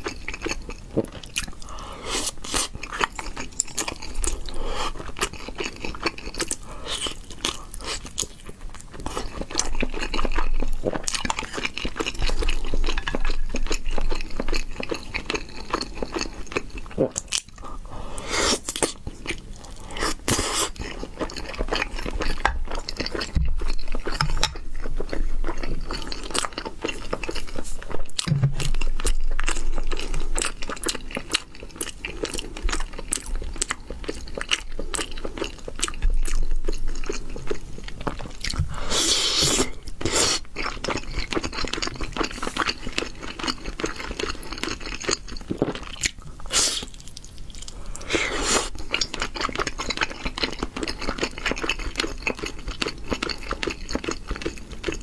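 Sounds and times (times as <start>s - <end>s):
person chewing sticky food: 0.0s - 55.0s.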